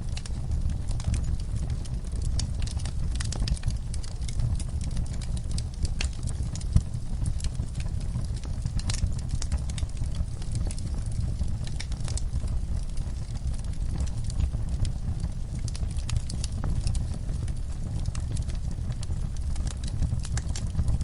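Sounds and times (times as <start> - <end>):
wood fire crackling in fireplace: 0.0 - 21.0.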